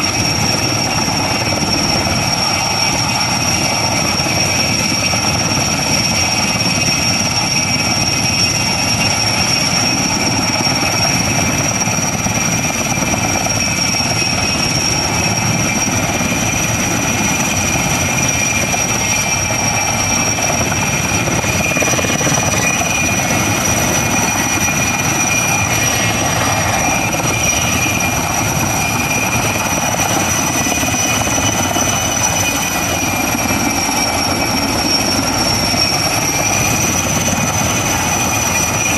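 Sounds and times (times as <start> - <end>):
helicopter rotors and engines: 0.0 - 38.9
high turbine whine: 0.0 - 38.9.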